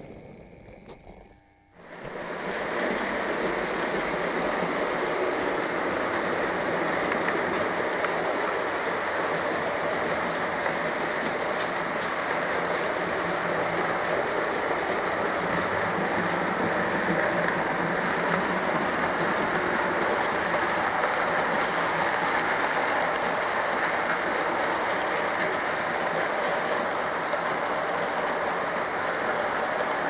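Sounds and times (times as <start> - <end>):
model train rolling on track: 1.9 - 30.0.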